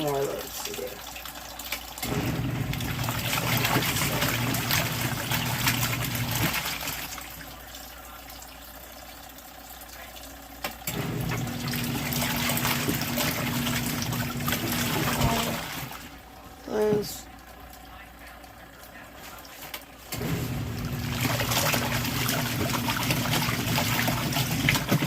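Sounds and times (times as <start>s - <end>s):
low steady hum: 0.0s - 25.0s
water running into a tub: 0.0s - 25.0s.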